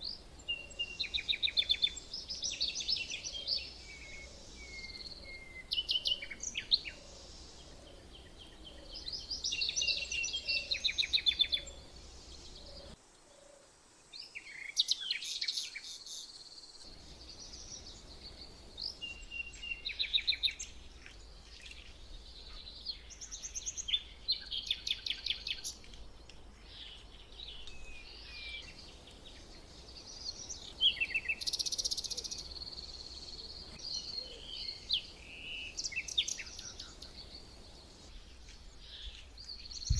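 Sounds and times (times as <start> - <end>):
songbirds chirping and singing: 0.0 - 13.6, 14.2 - 39.9.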